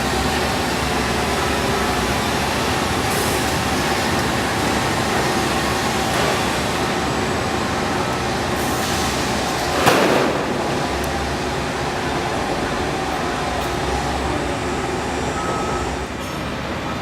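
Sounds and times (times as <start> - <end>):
construction machinery rumble: 0.0 - 17.0.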